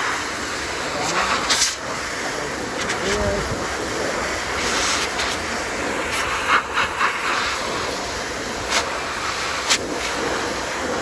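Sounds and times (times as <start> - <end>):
grooming dryer blowing air: 0.0 - 11.0.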